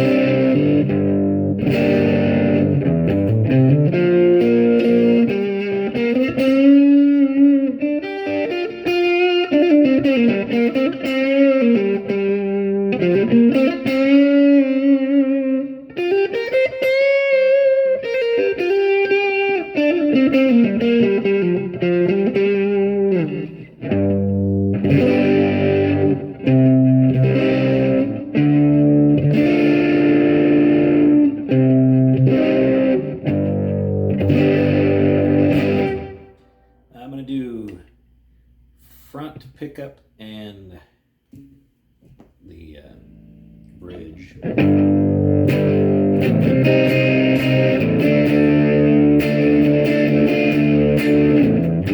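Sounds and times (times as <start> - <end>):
electric guitar playing: 0.0 - 36.8, 42.9 - 51.9.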